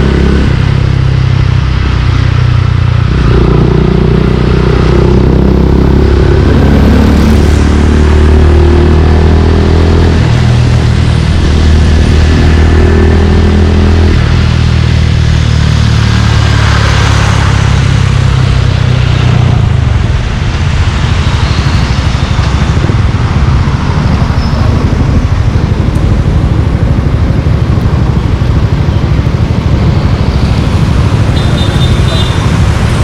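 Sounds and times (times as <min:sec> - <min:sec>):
motorcycle exhaust at low revs: 0:00.0 - 0:33.0.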